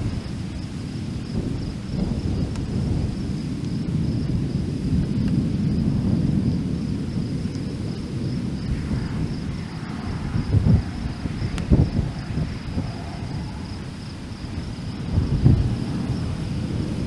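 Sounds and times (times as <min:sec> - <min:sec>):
high insect drone: 0:00.0 - 0:17.0
rolling thunder rumble: 0:00.0 - 0:17.0.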